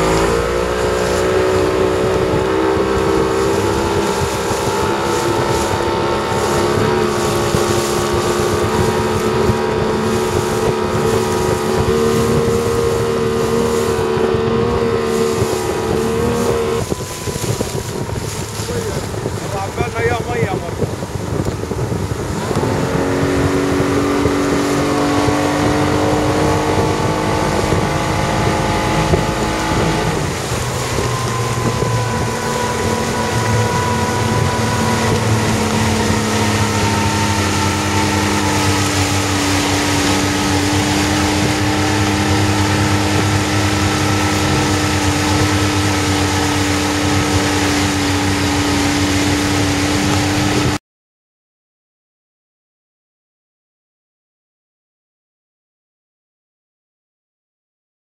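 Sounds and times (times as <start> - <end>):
motorboat engine running: 0.0 - 50.8
water noise: 0.0 - 50.8
wind: 0.0 - 50.8.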